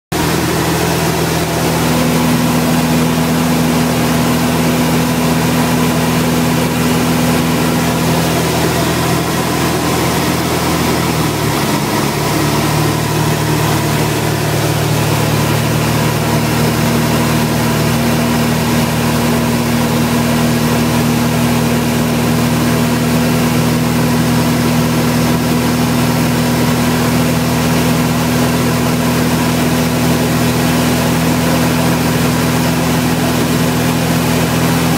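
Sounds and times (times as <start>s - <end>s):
propeller aircraft engine droning: 0.1s - 34.9s.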